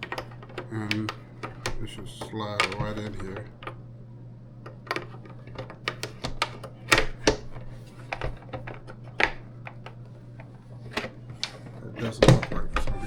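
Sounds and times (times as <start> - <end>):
plastic tray clicking and knocking: 0.0 - 3.8, 4.7 - 10.0, 10.9 - 12.9
steady low hum: 0.0 - 13.0.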